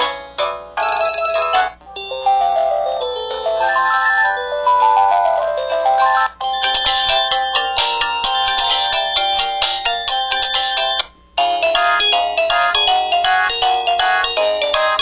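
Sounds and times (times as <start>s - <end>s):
mobile phone ringtone melodies: 0.0s - 15.0s.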